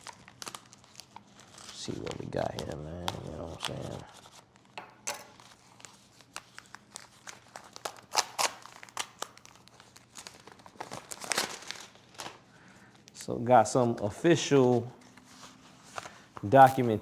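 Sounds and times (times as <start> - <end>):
paper packaging crinkling: 0.0 - 17.0.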